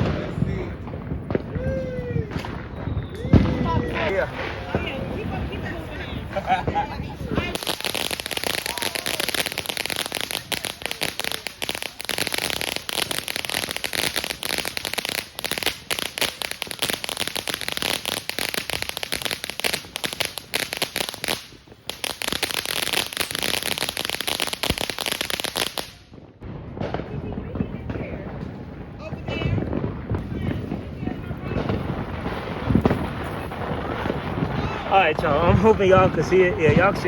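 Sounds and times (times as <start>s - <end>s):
firework fountain crackling: 0.0s - 37.0s.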